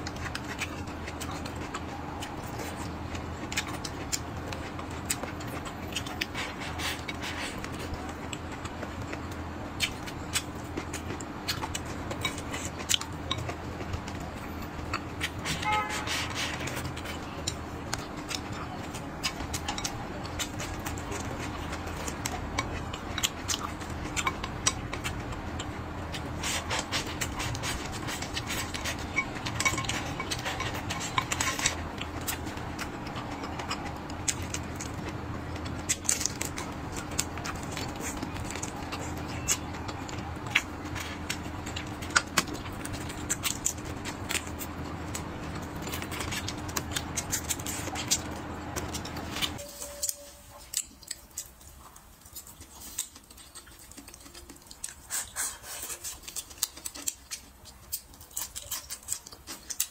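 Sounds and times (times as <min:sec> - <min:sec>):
noodles slurped and chewed: 0:00.0 - 0:49.6, 0:50.6 - 0:59.9
faint steady hum: 0:00.0 - 0:59.9.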